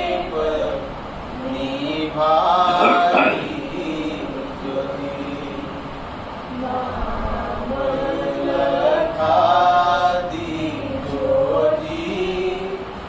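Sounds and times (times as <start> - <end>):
group chanting prayer in unison: 0.0 - 13.0.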